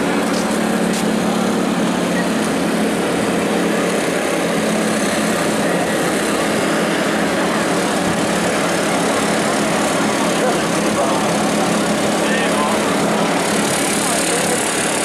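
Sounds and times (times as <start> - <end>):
motorcycle engines droning: 0.0 - 15.0
voices: 0.0 - 15.0.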